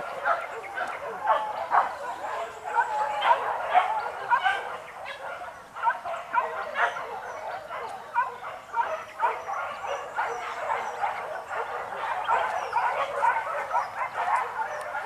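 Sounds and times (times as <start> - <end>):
dogs barking and yelping: 0.0 - 15.0.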